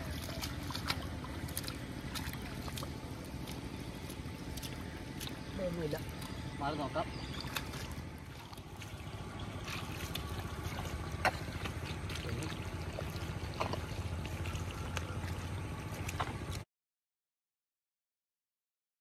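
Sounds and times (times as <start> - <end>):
low steady rumble: 0.0 - 16.6
water sloshing and splashing: 0.0 - 16.7.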